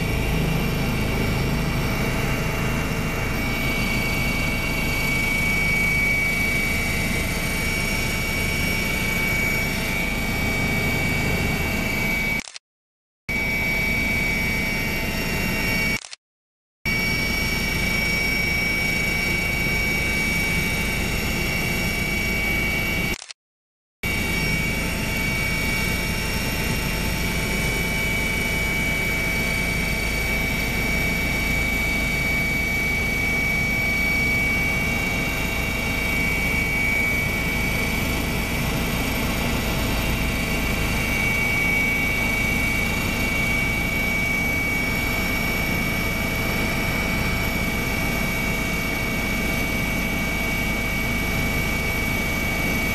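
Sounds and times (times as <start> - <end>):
helicopter engine and rotor din: 0.0 - 12.6, 13.3 - 16.2, 16.9 - 23.4, 24.0 - 52.9
high whine: 0.0 - 12.6, 13.3 - 16.2, 16.9 - 23.3, 24.0 - 52.9.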